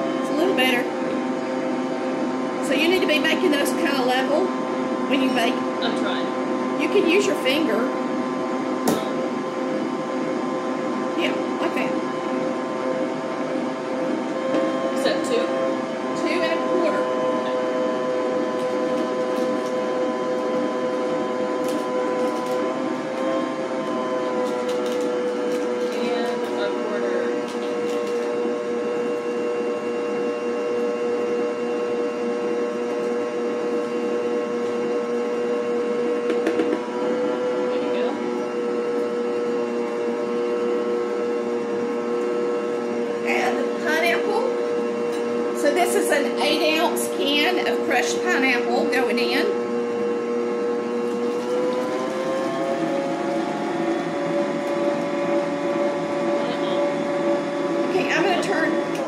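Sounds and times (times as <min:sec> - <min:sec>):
stand mixer motor whine: 0:00.0 - 0:59.0
batter churning: 0:00.3 - 0:59.0.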